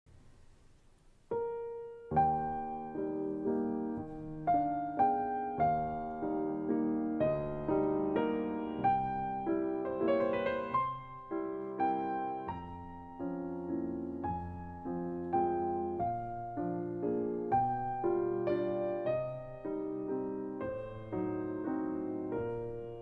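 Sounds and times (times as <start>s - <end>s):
piano chords ringing: 1.2s - 23.0s.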